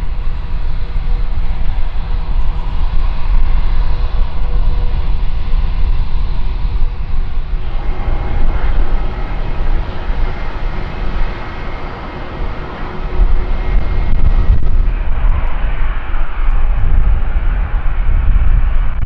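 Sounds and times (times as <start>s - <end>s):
jet engines idling: 0.0s - 18.2s.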